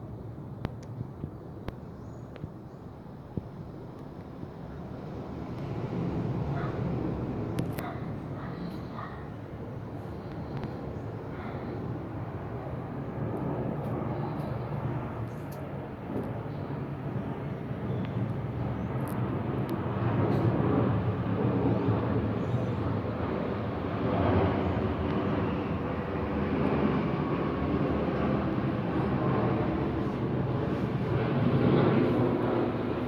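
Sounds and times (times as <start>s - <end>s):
jet engines rushing: 2.5s - 33.0s.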